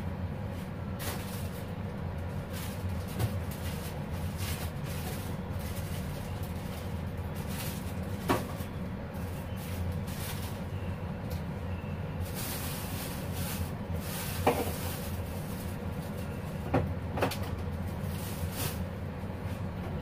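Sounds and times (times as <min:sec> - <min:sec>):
low kitchen hum: 0:00.0 - 0:20.0.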